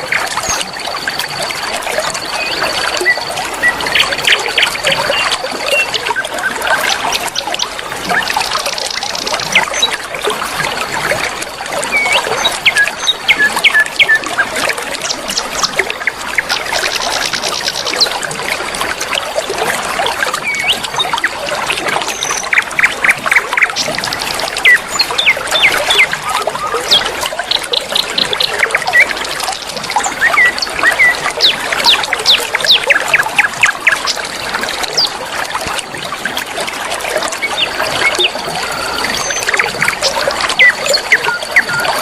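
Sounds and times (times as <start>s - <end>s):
river water flowing: 0.0s - 42.0s.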